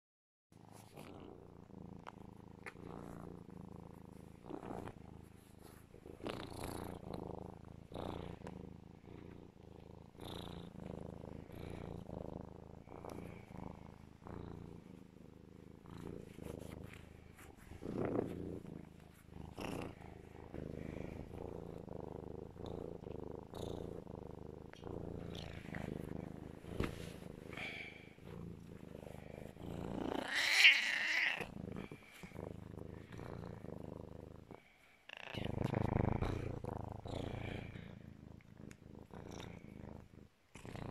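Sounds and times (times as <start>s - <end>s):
cat purring loudly: 0.6s - 40.9s.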